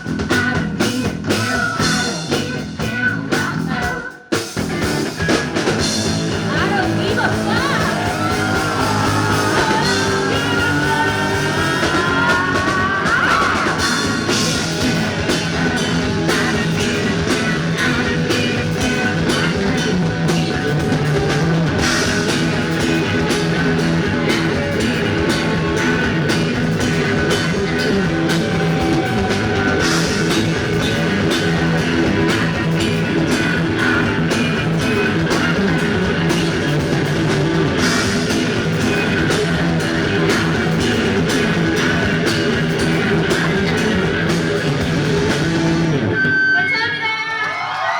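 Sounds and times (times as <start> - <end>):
rock band playing: 0.0 - 47.9
sliding rising guitar notes: 4.8 - 46.7.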